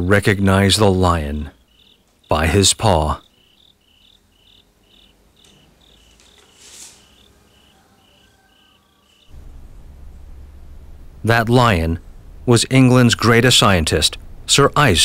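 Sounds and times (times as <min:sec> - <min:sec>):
crickets chirping: 0:01.3 - 0:14.6.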